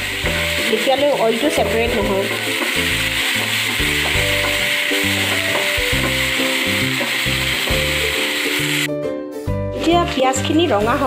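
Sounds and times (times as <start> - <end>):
food sizzling in hot oil: 0.0 - 8.9
background music with steady beat: 1.9 - 11.0.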